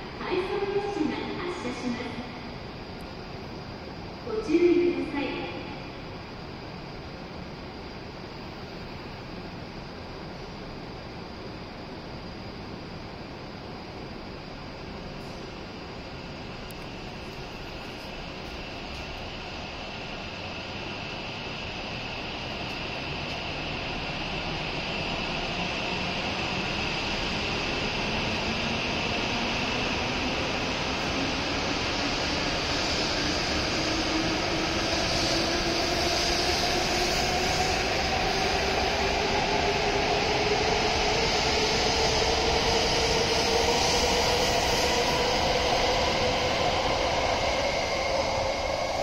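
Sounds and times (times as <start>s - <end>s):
train running noise: 0.0s - 11.6s, 14.6s - 49.0s.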